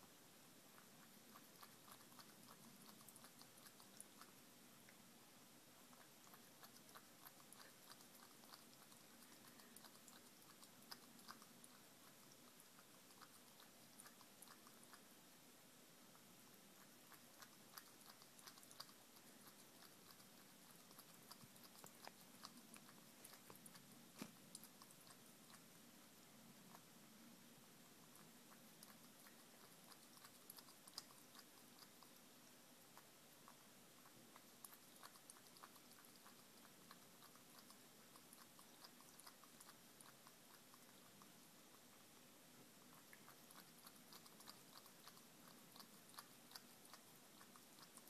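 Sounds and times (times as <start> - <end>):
cat chewing: 0.0 - 48.0.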